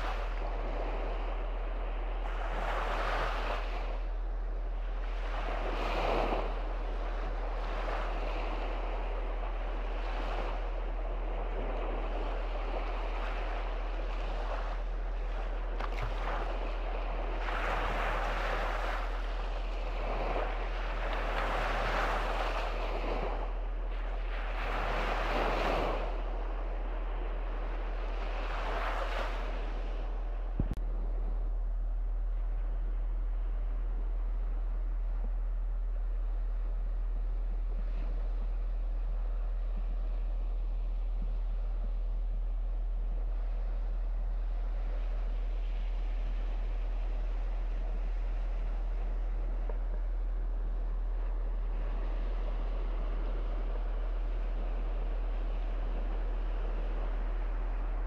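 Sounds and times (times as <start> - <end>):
small waves breaking on beach: 0.0 - 31.4, 35.9 - 58.0
steady low rumble: 0.0 - 58.0.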